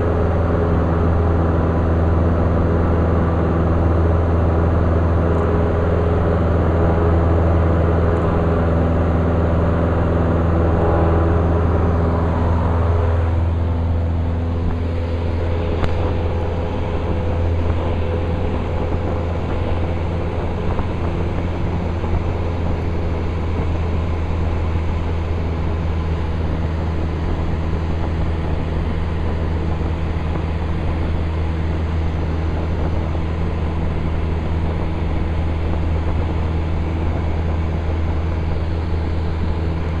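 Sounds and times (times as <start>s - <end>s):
airplane engine droning in cabin: 0.0s - 40.0s.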